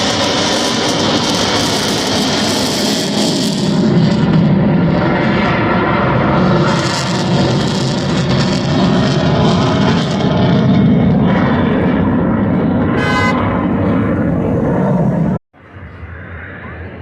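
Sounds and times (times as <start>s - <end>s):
crackling jet engine noise: 0.0s - 17.0s.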